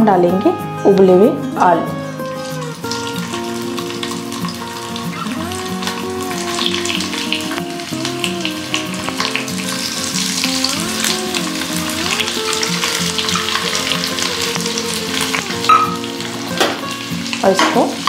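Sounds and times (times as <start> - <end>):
background music: 0.0 - 18.0
potatoes sizzling in hot oil: 1.0 - 18.0.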